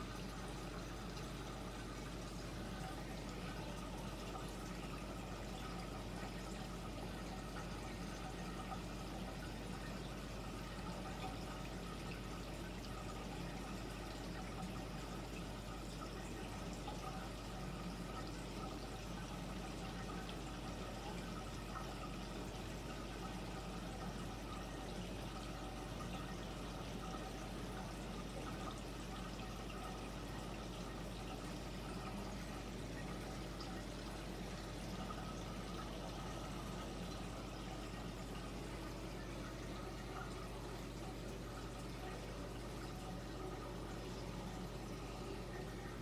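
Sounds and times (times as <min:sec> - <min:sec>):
low steady hum: 0:00.0 - 0:46.0
water pouring and trickling: 0:00.0 - 0:46.0.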